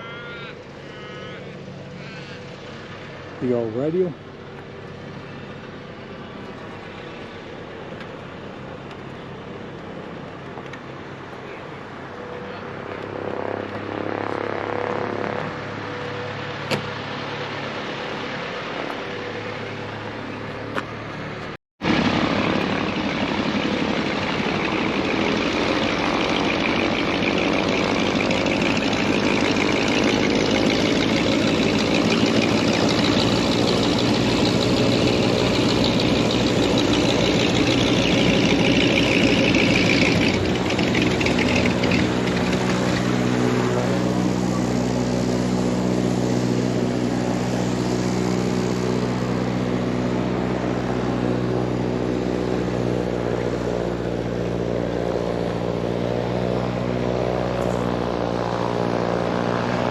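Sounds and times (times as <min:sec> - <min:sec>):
propeller aircraft engine running: 0:00.0 - 0:59.9.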